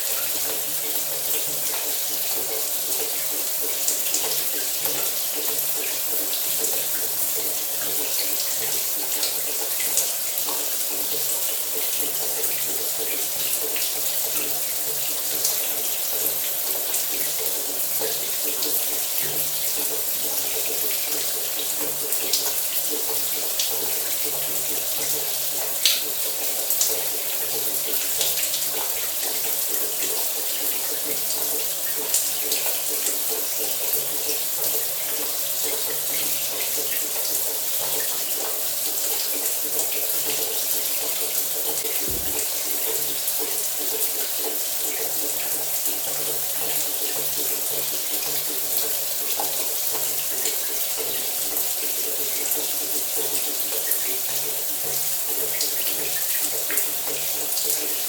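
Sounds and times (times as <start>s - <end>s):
shower spraying water: 0.0s - 58.0s.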